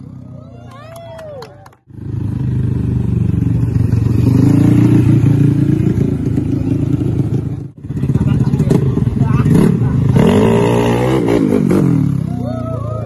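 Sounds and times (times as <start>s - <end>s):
scooter engine revving: 1.8s - 12.8s.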